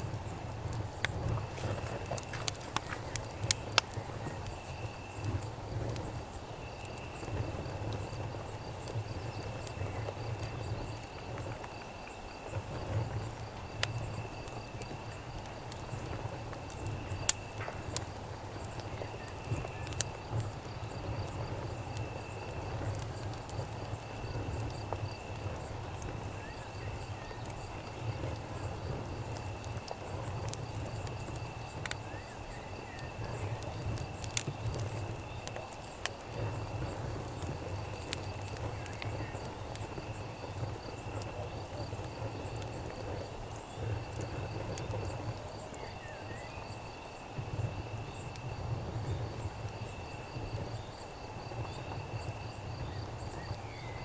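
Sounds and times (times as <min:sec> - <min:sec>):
campfire crackling and popping: 0:00.0 - 0:54.0
crickets chirping: 0:00.0 - 0:54.0.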